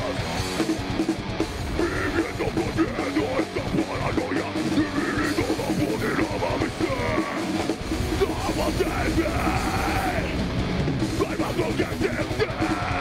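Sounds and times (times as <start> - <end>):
distorted metal music: 0.0 - 13.0
pounding drums: 0.0 - 13.0
yelled vocals: 0.0 - 13.0.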